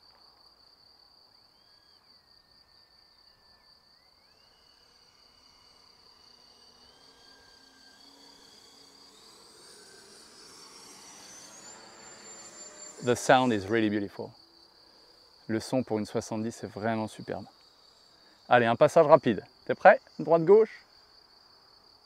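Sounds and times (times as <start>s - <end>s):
high insect chirring: 0.9s - 22.0s
electric ducted fan jet whine: 3.9s - 22.0s.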